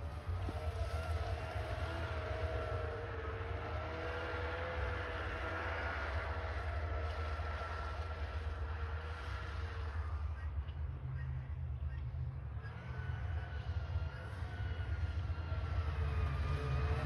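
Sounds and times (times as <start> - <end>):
snowmobile engine droning: 0.0 - 17.0.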